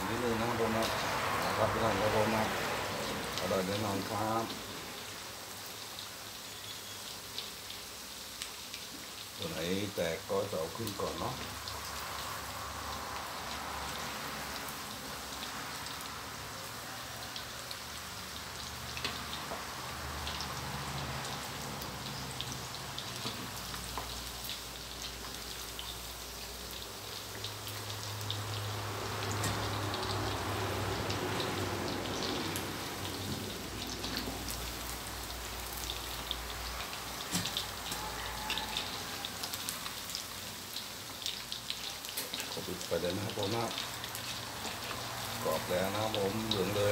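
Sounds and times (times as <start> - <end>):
sausages sizzling in hot oil: 0.0 - 46.9.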